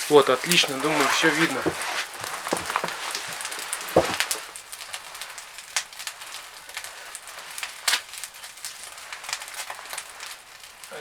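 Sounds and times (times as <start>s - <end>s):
fire pops: 0.0s - 11.0s
wood fire hissing and crackling: 0.0s - 11.0s.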